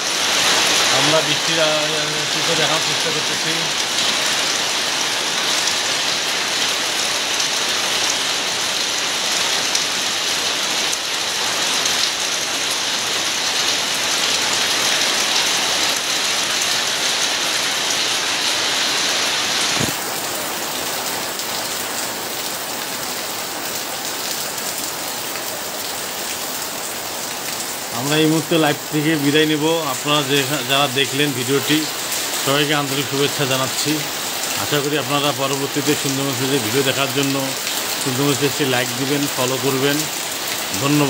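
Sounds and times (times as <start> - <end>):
rain falling steadily: 0.0 - 41.0.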